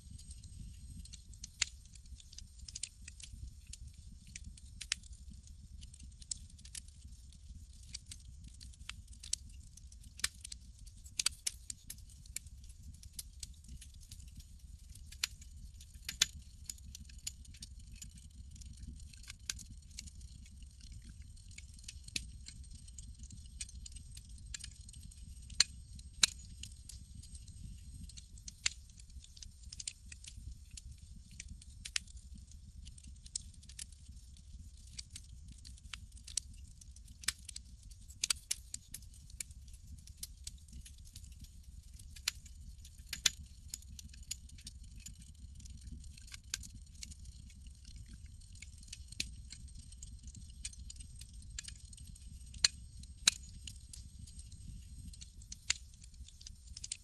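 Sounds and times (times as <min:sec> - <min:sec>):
campfire crackling and popping: 0:00.1 - 0:57.0.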